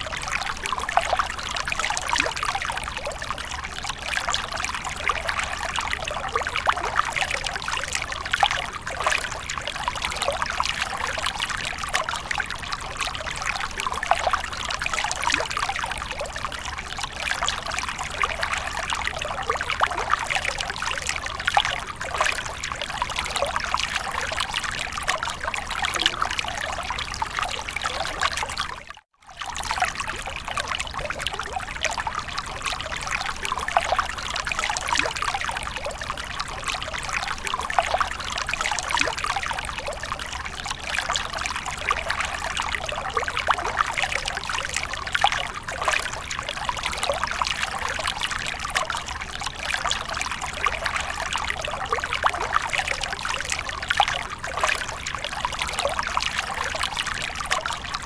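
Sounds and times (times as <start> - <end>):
water splashing and trickling: 0.0 - 58.0.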